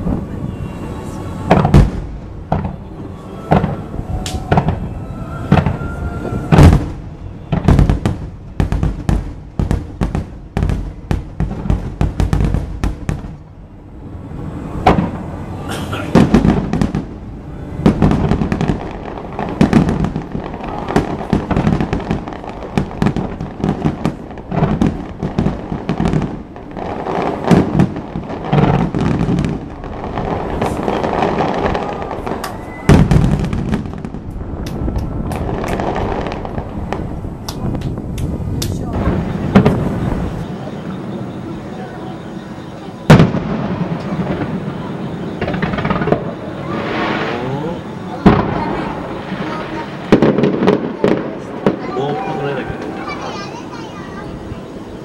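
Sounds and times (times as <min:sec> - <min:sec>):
fireworks bursting bangs: 0:00.0 - 0:55.0.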